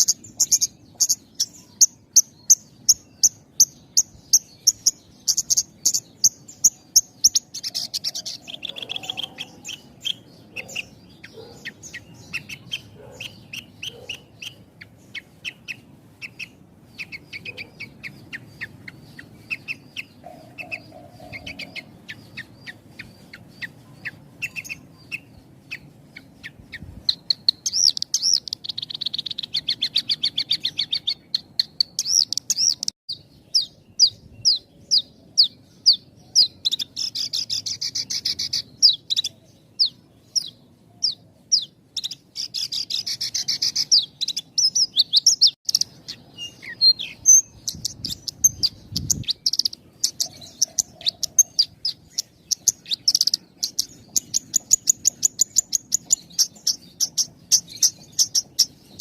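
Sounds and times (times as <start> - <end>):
bird chirping song: 0.0 - 59.0
buzzy bird trills: 0.0 - 59.0.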